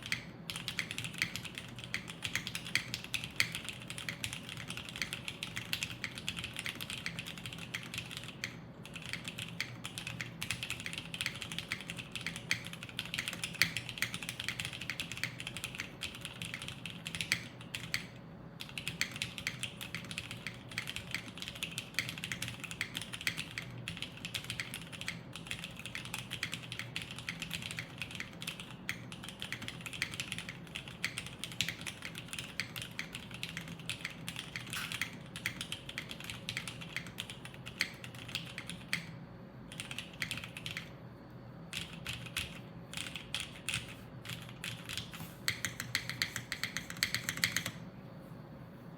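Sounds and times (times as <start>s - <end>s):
fast typing on mechanical keyboard: 0.0s - 41.0s, 41.7s - 47.8s.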